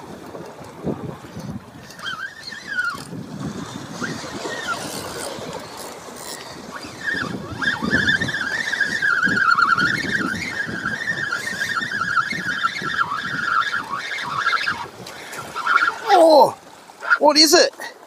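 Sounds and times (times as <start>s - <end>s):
fishing reel whining: 1.8s - 16.5s.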